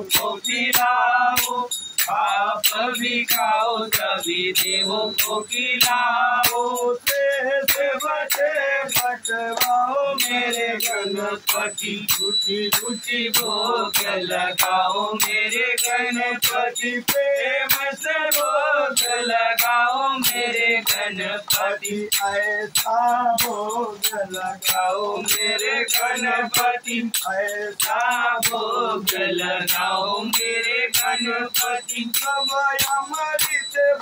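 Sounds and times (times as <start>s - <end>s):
hand claps: 0.0s - 34.0s.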